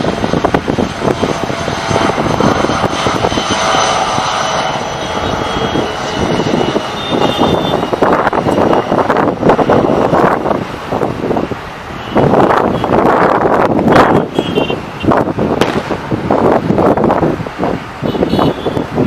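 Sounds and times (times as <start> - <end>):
airliner engines roaring: 0.0 - 19.0
high jet whine: 0.0 - 19.0.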